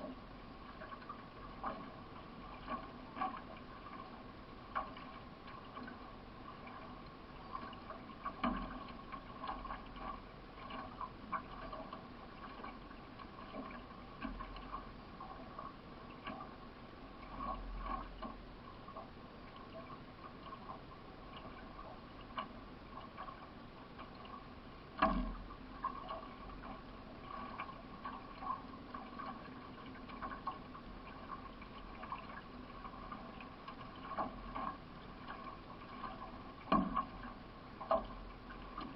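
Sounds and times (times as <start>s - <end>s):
canoe paddle strokes in water: 0.0s - 38.9s
faint hum: 0.0s - 38.9s.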